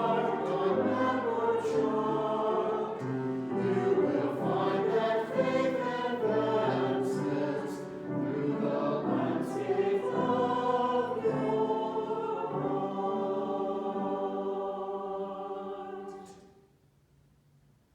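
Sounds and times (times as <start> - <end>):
choir singing: 0.0 - 16.6.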